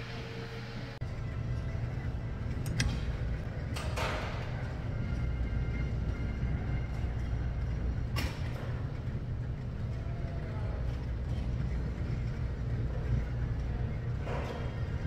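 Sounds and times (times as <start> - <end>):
gym room rumble: 0.0 - 15.0.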